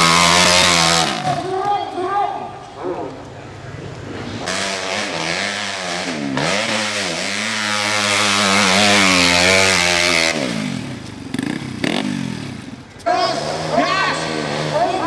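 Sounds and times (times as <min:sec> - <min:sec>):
dirt bike engine revving: 0:00.0 - 0:01.7, 0:04.2 - 0:15.0.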